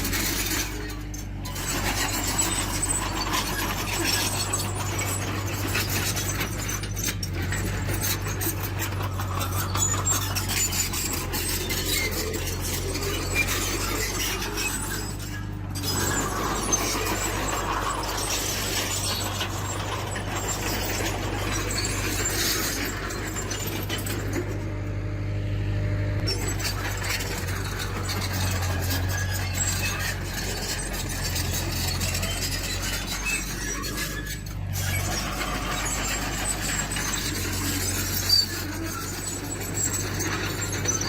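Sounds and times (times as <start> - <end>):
metallic squeals and clanks: 0.0 - 25.0, 26.2 - 41.0
diesel engine under load: 0.0 - 41.0.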